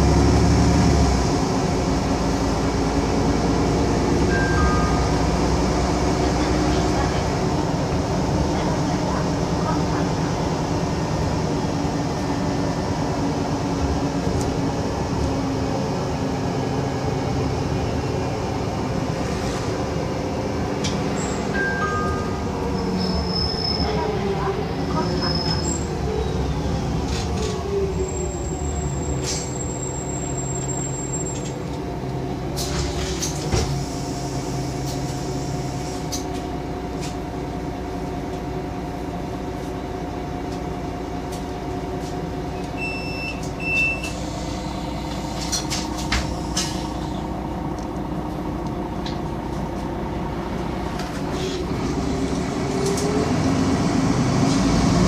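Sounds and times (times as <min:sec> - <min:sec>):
bus drivetrain whine: 0:00.0 - 0:55.0
road rumble: 0:00.0 - 0:55.0.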